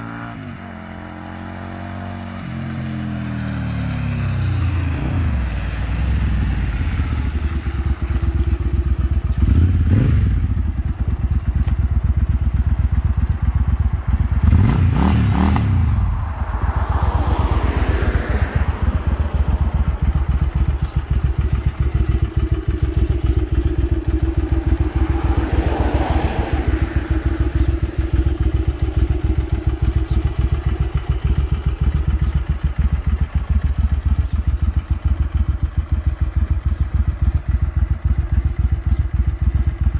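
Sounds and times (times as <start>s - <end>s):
motorcycle engine rev: 0.0s - 39.9s
motorcycle engine idling: 3.1s - 17.7s, 18.3s - 39.9s.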